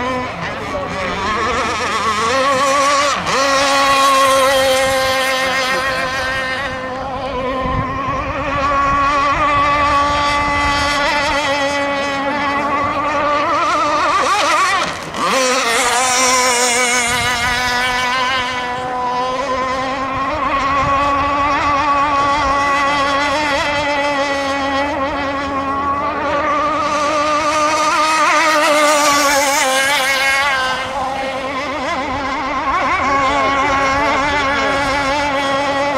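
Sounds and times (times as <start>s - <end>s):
boat engine high whine: 0.0s - 35.9s.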